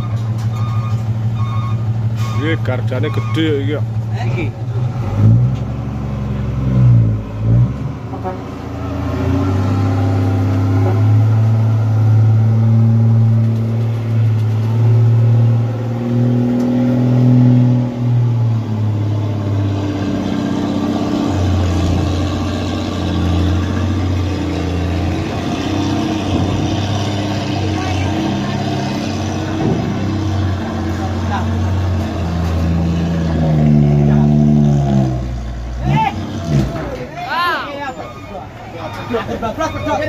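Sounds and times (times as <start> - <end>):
truck diesel engine revving: 0.0 - 37.2.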